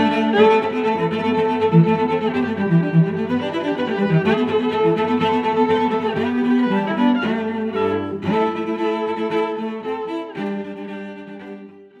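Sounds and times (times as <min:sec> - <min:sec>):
bowed strings holding long notes: 0:00.0 - 0:12.0.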